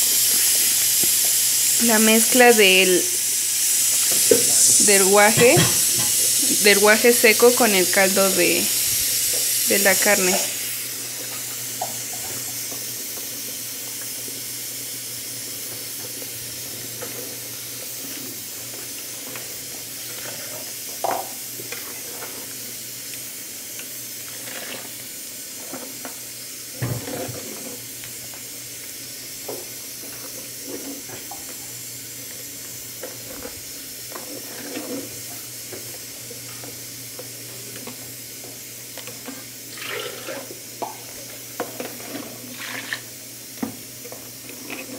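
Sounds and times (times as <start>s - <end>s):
sauce boiling in a pot: 0.0s - 44.9s.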